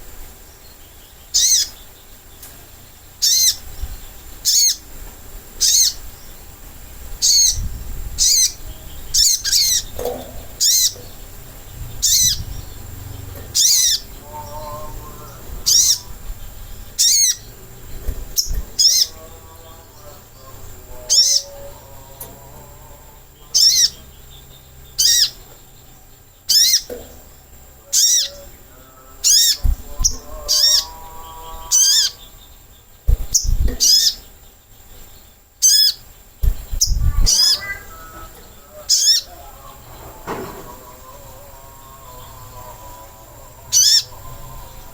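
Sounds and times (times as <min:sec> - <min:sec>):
sunbird high falling calls: 0:00.0 - 0:44.9
faint low warbling song: 0:05.6 - 0:44.9.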